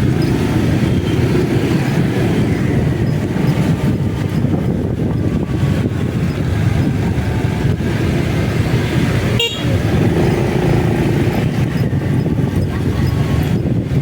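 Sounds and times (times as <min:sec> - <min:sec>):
motorcycle engine at speed: 0:00.0 - 0:14.0
wind noise on microphone: 0:00.0 - 0:14.0.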